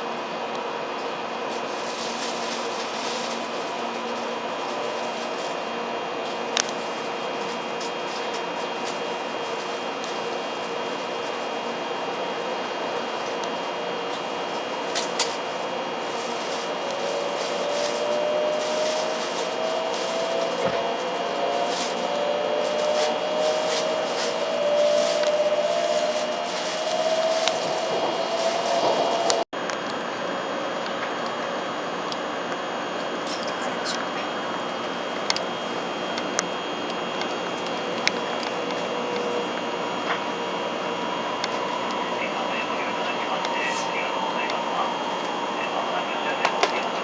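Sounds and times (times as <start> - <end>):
train running: 0.0 - 47.0.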